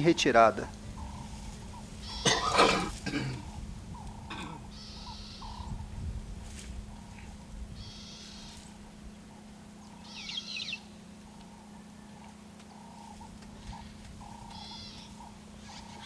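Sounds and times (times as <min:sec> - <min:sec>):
birds trilling and chirping: 0:00.0 - 0:16.0
steady low hum: 0:00.0 - 0:16.0.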